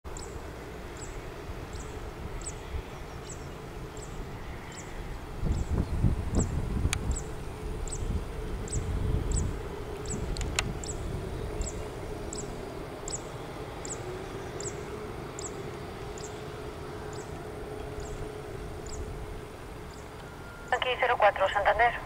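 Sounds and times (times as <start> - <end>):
faint hum: 0.1 - 22.0
low outdoor rumble: 0.1 - 22.0.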